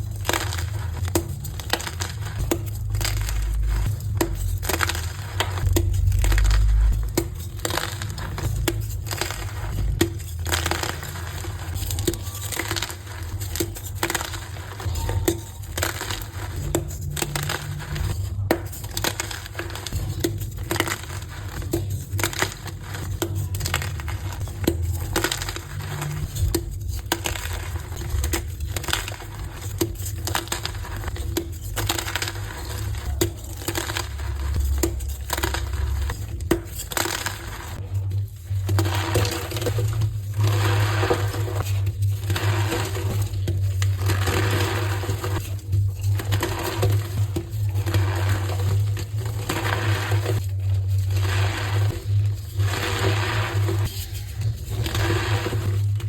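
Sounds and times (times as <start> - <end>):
chalk blocks crushed by hand: 0.0 - 56.0.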